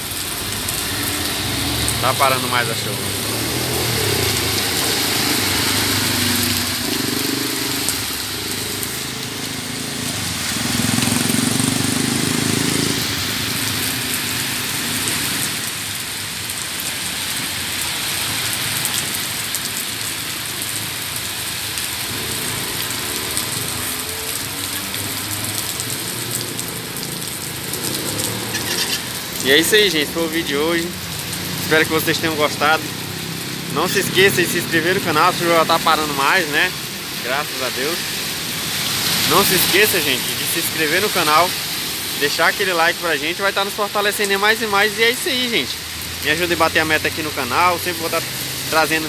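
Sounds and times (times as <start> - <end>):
rain falling and splashing: 0.0 - 49.0.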